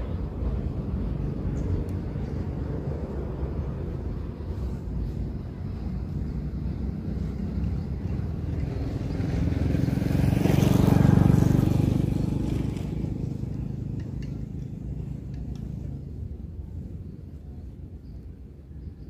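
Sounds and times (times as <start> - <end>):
motor vehicle passing by: 0.0 - 17.2.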